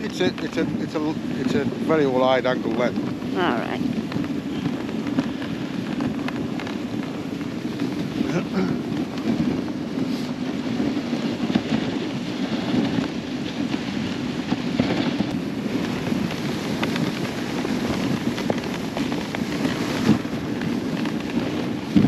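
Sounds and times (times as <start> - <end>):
sled runners scraping on snow: 0.0 - 22.0.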